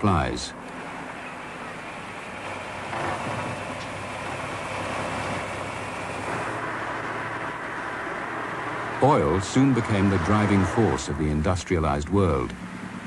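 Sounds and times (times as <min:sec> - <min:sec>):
machinery running: 0:00.0 - 0:13.0.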